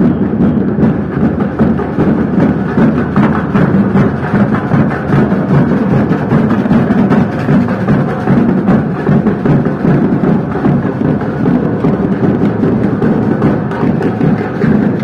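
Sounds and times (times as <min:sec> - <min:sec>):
loud music with drums: 0:00.0 - 0:15.0.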